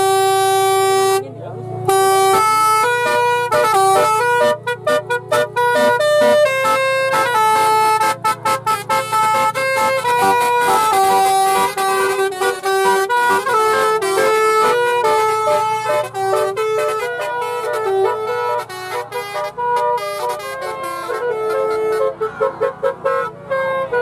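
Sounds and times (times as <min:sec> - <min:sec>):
musical air horn tune: 0:00.0 - 0:01.2, 0:01.8 - 0:24.0.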